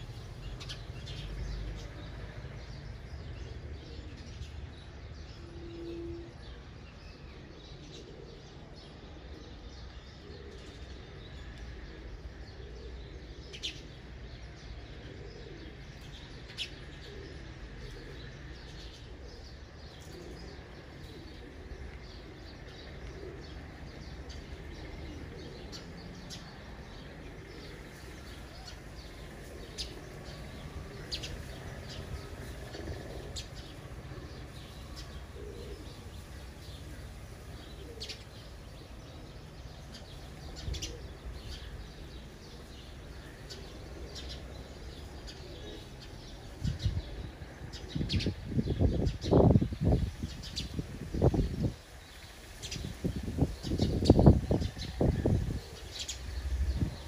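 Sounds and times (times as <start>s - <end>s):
sparrow chirping: 0.0s - 21.4s, 22.2s - 57.0s.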